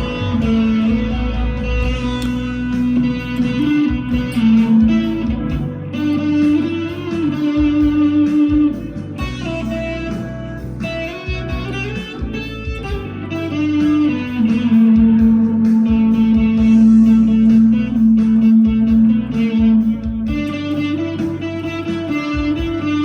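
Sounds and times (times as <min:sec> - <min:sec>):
overdriven electric guitar lead: 0:00.0 - 0:23.0.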